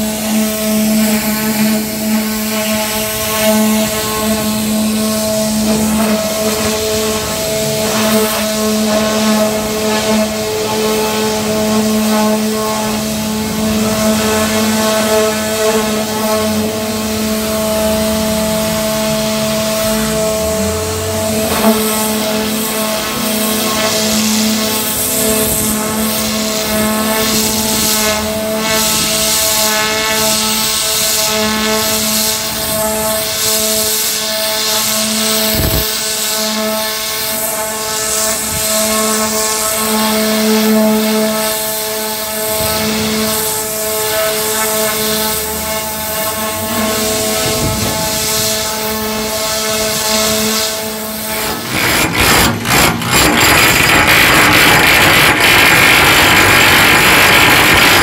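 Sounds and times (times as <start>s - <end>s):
pneumatic chipping hammer on steel: 0.0s - 58.0s
water blaster pump humming: 0.0s - 58.0s
water jet hissing on steel: 0.0s - 58.0s.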